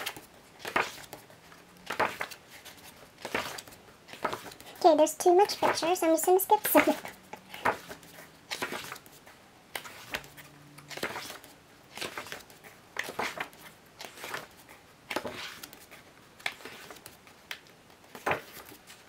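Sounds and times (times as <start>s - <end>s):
glossy book pages turning: 0.0s - 4.6s, 6.7s - 19.0s.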